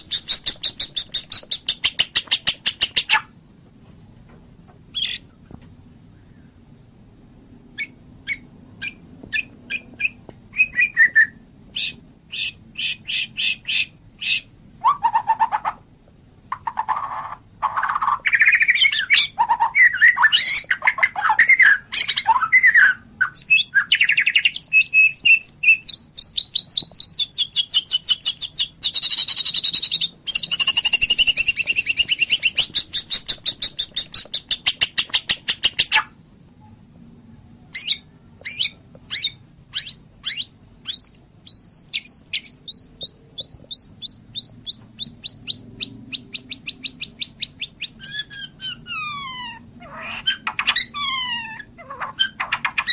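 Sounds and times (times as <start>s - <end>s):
bird singing whistled song: 0.0s - 3.7s, 4.9s - 5.2s, 7.8s - 15.6s, 16.7s - 36.8s, 37.7s - 49.4s, 52.2s - 52.9s.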